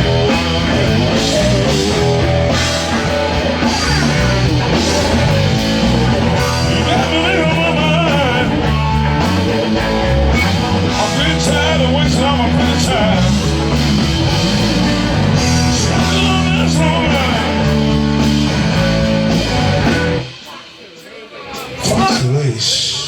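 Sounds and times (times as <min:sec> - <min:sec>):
lead guitar bending notes: 0:00.0 - 0:20.4
live rock band playing: 0:00.0 - 0:22.8.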